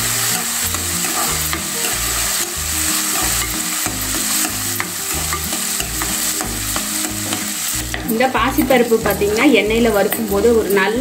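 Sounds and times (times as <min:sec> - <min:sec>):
spatula scraping a pan: 0:00.0 - 0:10.8
food sizzling in hot oil: 0:00.0 - 0:11.0.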